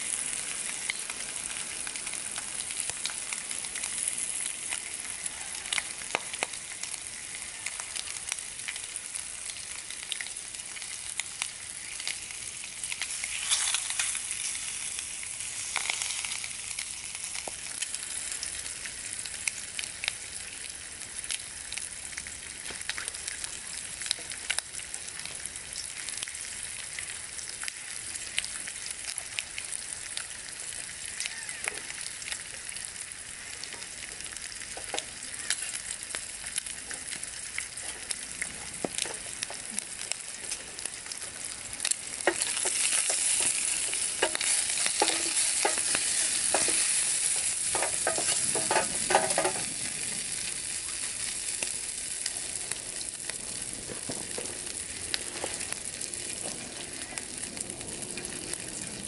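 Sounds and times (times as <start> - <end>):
bacon sizzling in a frying pan: 0.0 - 59.0.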